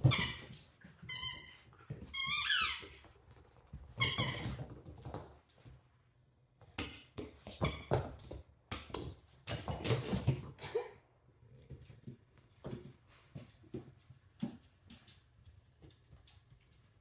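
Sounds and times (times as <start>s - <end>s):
puppy playing with a ball: 0.0s - 5.9s, 6.6s - 10.6s, 11.5s - 16.7s.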